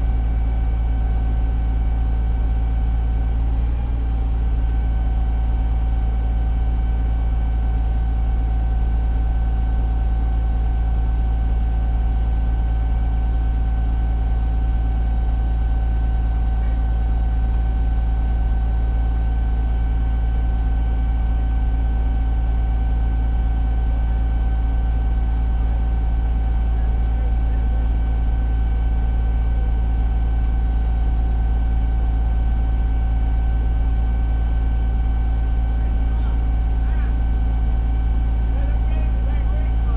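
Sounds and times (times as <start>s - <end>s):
fire engine diesel rumble: 0.0s - 39.9s.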